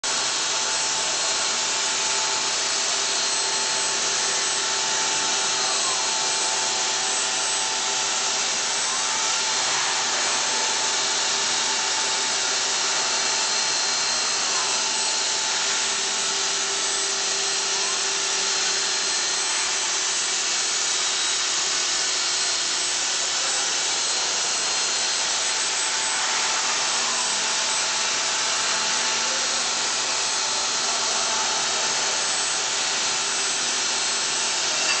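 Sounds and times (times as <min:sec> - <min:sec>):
stone cutting machine grinding: 0:00.0 - 0:35.0
faint machine whines: 0:00.1 - 0:35.0.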